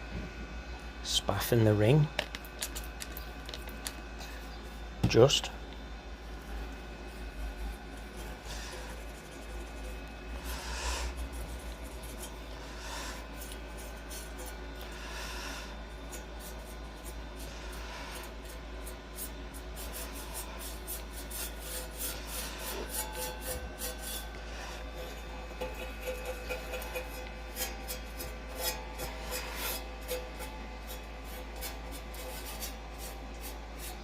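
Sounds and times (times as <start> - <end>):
low hum: 0.0 - 33.9
brush scrubbing on metal: 6.3 - 34.0.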